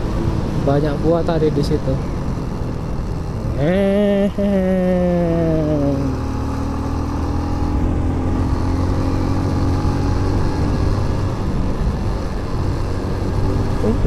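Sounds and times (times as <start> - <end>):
motorcycle engine: 0.0 - 14.0
wind and road noise: 0.0 - 14.0.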